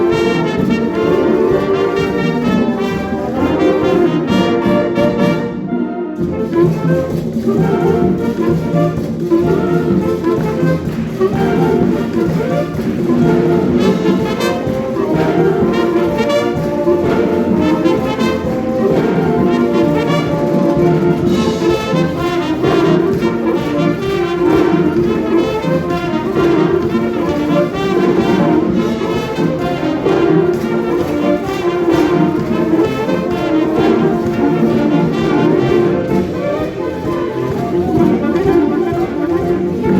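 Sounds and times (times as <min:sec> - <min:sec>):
trumpets and trombones chords: 0:00.0 - 0:39.9
wind band playing: 0:00.0 - 0:39.9.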